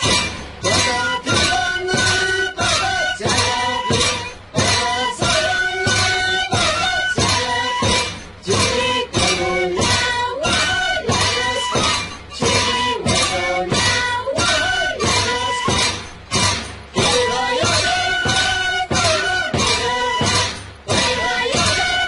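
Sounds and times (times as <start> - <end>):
band playing carnival music: 0.0 - 22.0.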